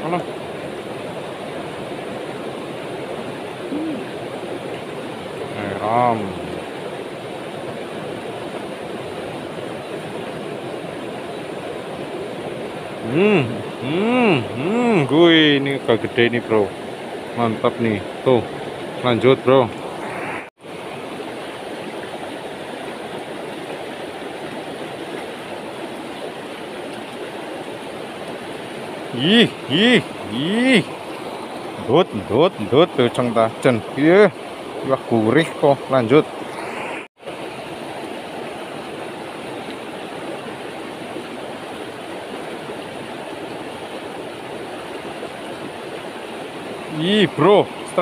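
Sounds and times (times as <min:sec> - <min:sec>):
river rushing over stones: 0:00.0 - 0:48.0.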